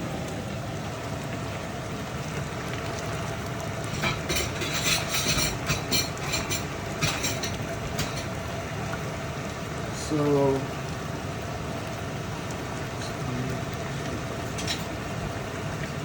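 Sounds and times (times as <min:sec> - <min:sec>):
pot of soup cooking: 0:00.0 - 0:16.0.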